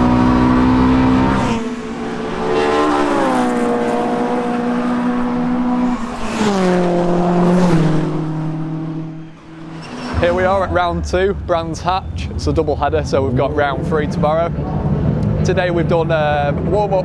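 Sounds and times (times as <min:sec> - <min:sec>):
rush of air and tyre noise: 0:00.0 - 0:15.4
race car engines passing: 0:00.0 - 0:17.0.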